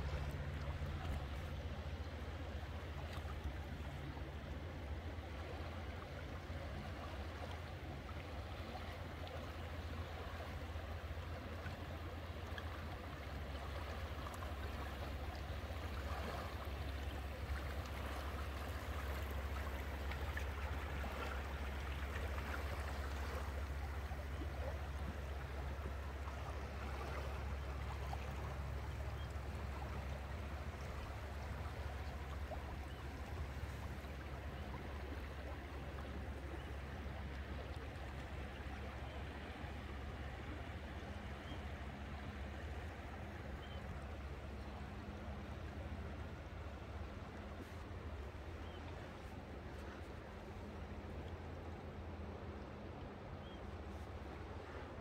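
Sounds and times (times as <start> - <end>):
water rushing along boat hull: 0.0 - 55.0.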